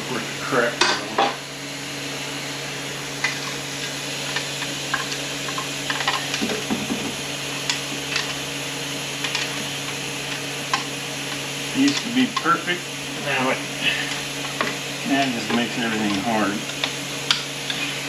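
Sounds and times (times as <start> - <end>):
steady shop hum: 0.0 - 18.0.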